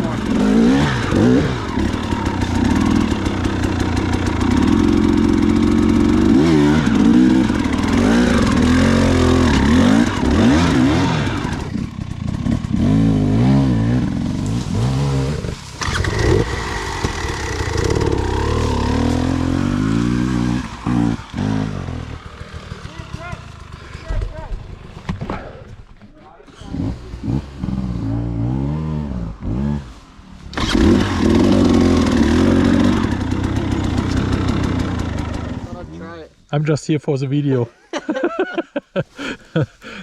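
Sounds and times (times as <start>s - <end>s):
dirt bike engine revving: 0.0s - 25.6s, 26.5s - 36.0s.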